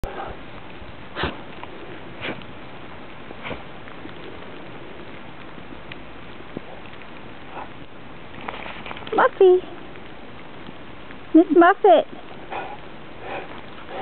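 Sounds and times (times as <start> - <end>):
steady hiss: 0.1 - 14.0.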